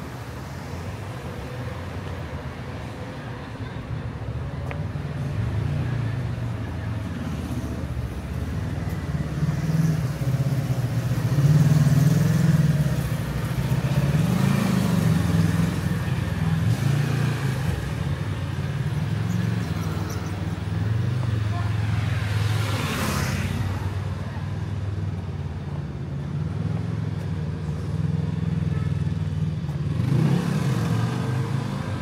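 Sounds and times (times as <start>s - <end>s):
vehicle engines running: 0.0s - 32.0s.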